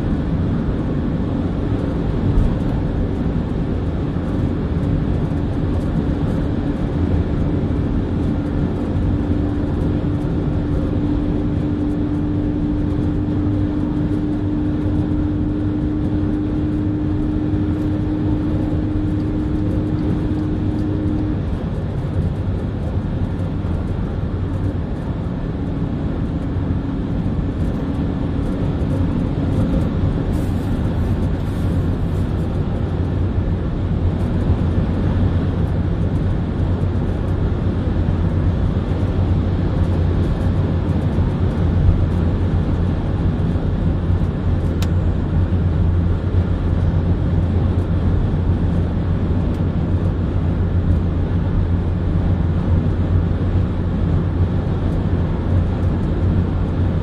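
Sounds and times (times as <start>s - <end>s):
low engine drone: 0.0s - 57.0s
steady hum: 0.0s - 57.0s
tyre and wind road noise: 0.0s - 57.0s.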